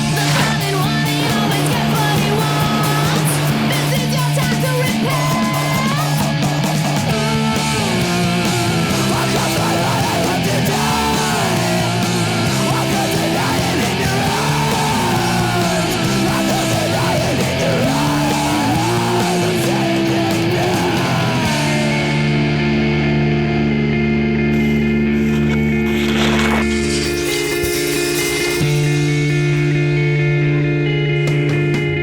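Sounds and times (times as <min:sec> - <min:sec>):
heavy rock electric guitar music: 0:00.0 - 0:32.0.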